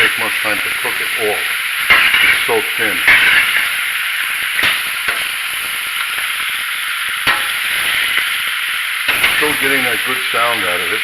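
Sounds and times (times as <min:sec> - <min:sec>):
meat and vegetables sizzling in pan: 0:00.0 - 0:11.0.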